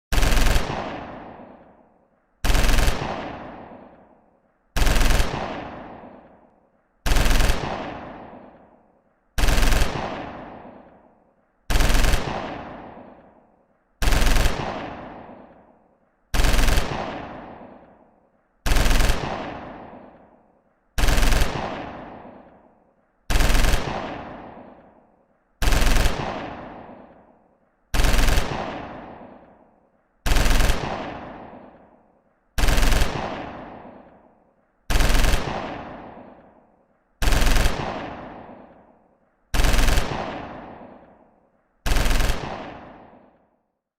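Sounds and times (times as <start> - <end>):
machine-gun bursts with echo: 0.1 - 1.8, 2.4 - 4.2, 4.8 - 43.6.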